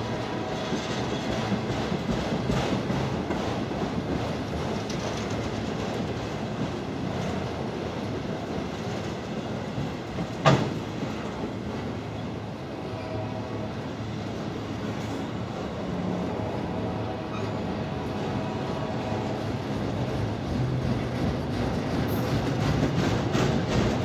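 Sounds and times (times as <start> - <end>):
freight train wheels rumbling on rail: 0.0 - 24.0.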